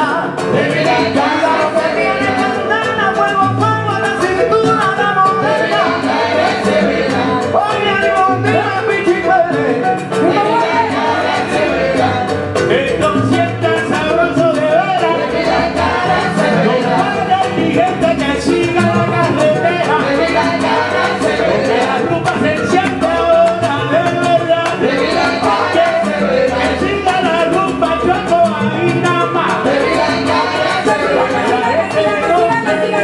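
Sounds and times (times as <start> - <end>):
people singing: 0.0 - 3.4, 4.9 - 33.0
live salsa band playing: 0.0 - 33.0.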